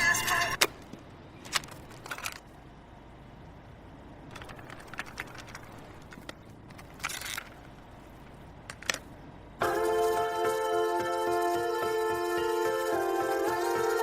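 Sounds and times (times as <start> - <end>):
low background noise: 0.0 - 12.2.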